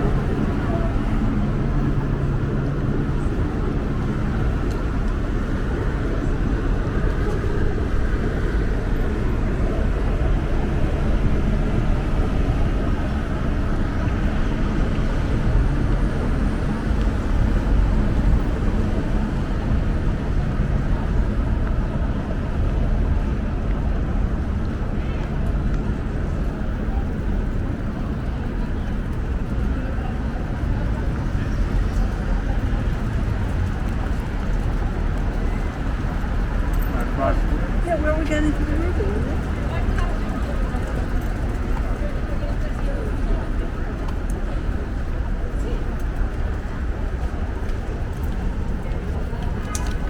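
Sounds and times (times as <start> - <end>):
low engine hum: 0.0 - 50.0
street traffic rumble: 0.0 - 50.0.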